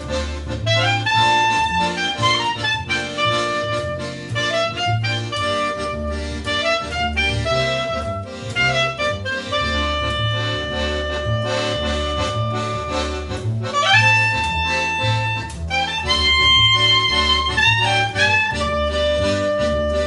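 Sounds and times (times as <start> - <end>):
accordion melody: 0.0 - 20.0
bass line: 0.0 - 20.0.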